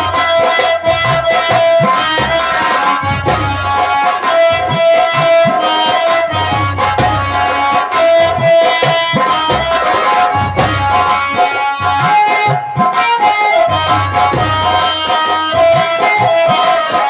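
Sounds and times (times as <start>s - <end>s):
rhythmic drums with swooping low strokes: 0.0s - 17.0s
sustained melody instrument: 0.0s - 17.0s.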